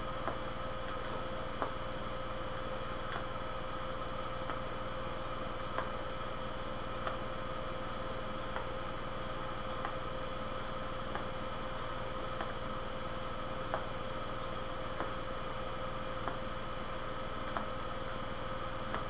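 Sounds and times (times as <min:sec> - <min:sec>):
room tone hum and hiss: 0:00.0 - 0:19.0.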